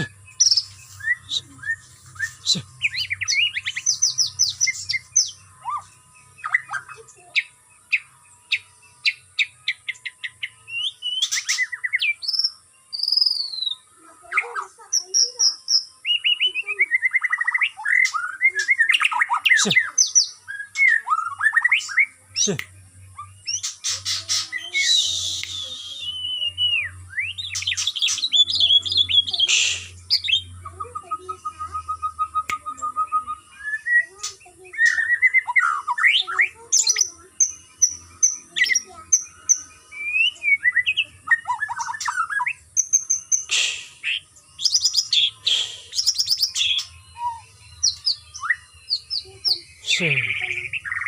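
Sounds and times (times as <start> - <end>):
bird singing varied song: 0.0 - 51.0.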